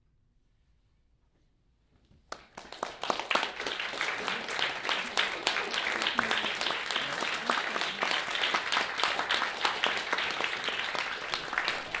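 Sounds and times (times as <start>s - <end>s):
audience applauding: 2.3s - 12.0s.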